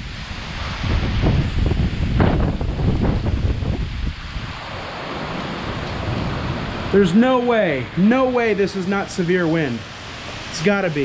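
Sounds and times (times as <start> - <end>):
heavy rain hiss: 0.0 - 11.0
wind gusts buffeting microphone: 0.0 - 11.0.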